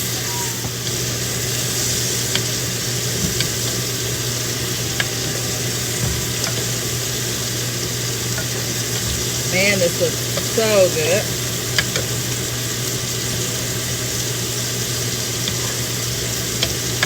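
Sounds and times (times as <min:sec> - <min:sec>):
exhaust fan humming: 0:00.0 - 0:17.0
steak sizzling in a skillet: 0:00.0 - 0:17.0.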